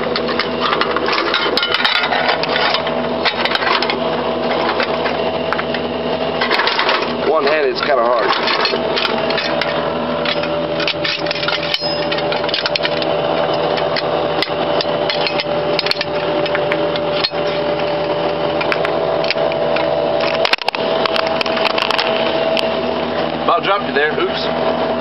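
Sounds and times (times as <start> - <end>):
vehicle machinery hum: 0.0 - 25.0.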